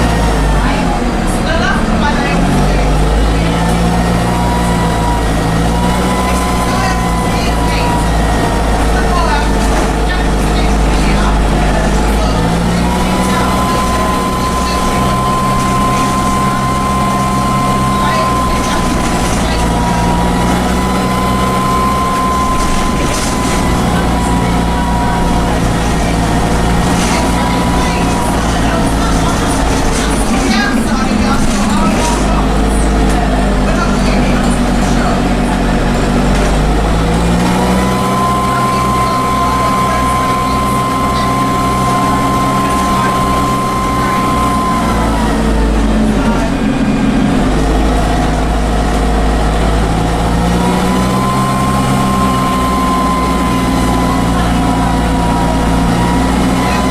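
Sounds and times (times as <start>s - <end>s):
diesel engine hum: 0.0s - 56.9s
turbocharger whine: 0.0s - 56.9s.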